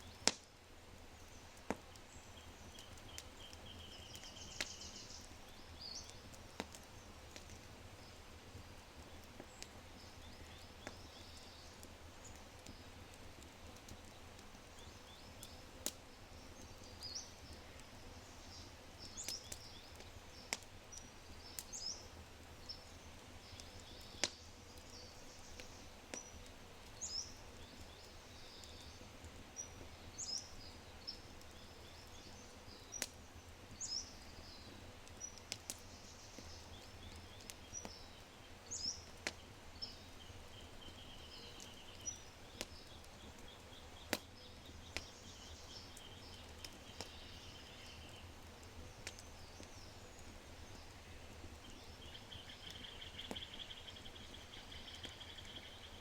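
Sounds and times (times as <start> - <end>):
fire crackling and popping: 0.0 - 56.0
songbirds chirping: 0.0 - 56.0.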